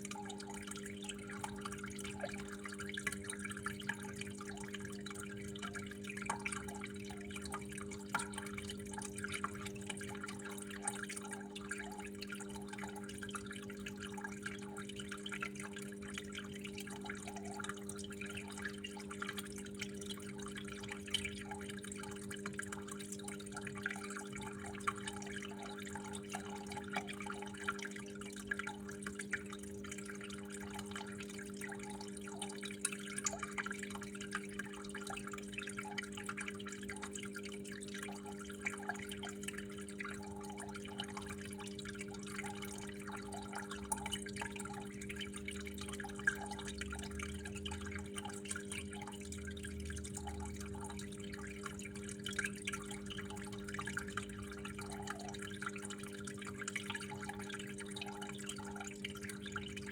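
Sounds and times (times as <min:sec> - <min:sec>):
water flowing and dripping: 0:00.0 - 0:59.9.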